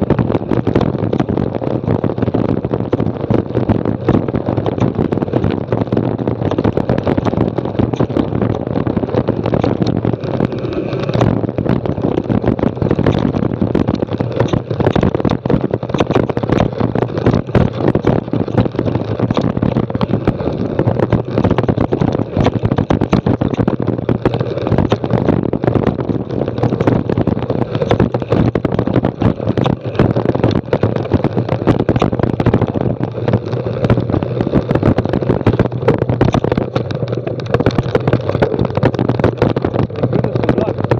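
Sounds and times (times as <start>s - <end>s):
tyre and wind rush: 0.0s - 40.9s
wheels rattling over stones: 0.0s - 40.9s.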